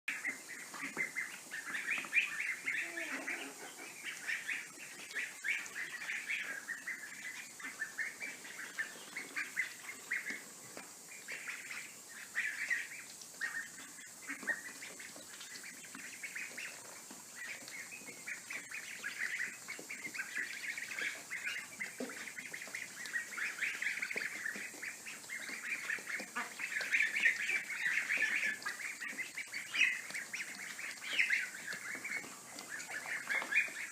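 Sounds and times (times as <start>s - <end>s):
ducklings peeping: 0.1s - 33.9s.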